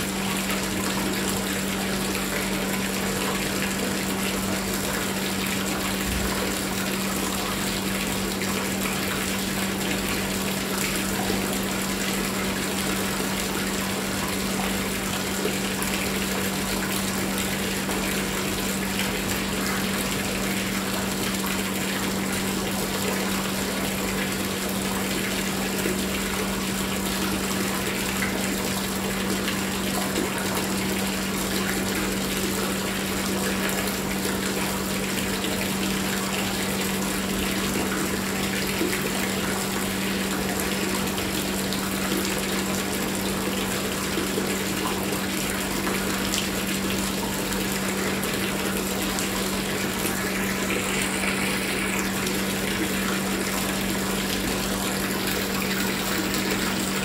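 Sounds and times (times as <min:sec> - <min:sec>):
water splashing into pool: 0:00.0 - 0:57.0.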